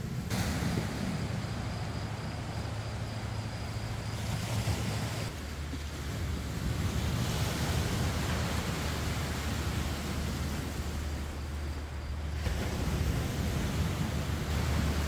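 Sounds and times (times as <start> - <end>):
sea surf roaring: 0.0 - 15.0.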